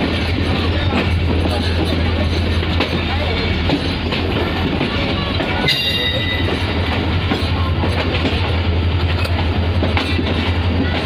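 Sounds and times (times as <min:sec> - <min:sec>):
train wheels and wind rumble: 0:00.0 - 0:11.0.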